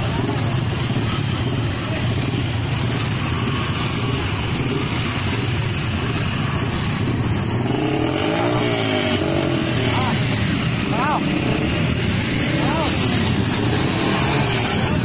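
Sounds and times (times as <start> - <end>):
motorcycle engines droning: 0.0 - 15.0.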